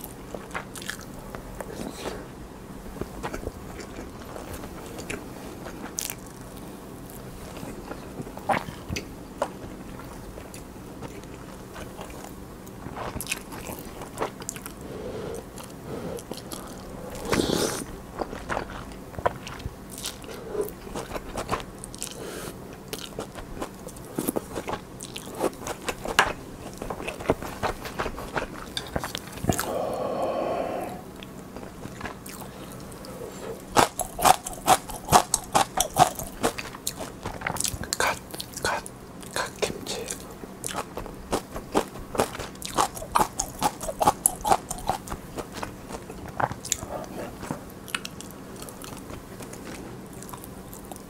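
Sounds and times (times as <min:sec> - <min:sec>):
wet chewing and smacking: 0:00.0 - 0:01.7, 0:03.0 - 0:14.8, 0:15.6 - 0:30.3, 0:31.1 - 0:51.0.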